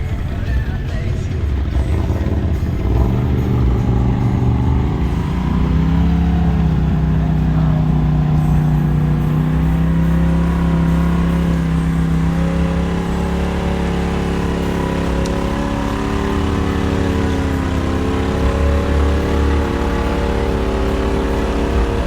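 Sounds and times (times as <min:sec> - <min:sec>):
engine revving: 0:00.0 - 0:22.0.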